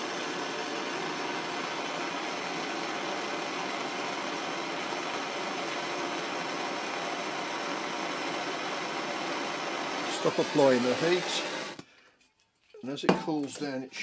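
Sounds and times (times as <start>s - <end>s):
gas blowtorch burning: 0.0s - 11.9s.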